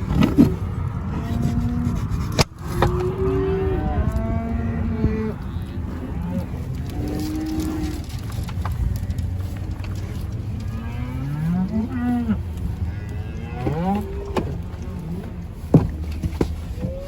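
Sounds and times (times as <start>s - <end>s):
cows mooing: 0.0s - 17.0s
steady low rumble: 0.0s - 17.0s.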